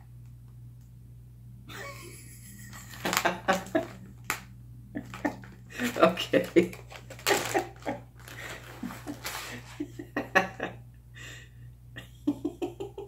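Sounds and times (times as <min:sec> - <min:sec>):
man laughing quietly: 0:01.7 - 0:04.2, 0:04.9 - 0:13.0.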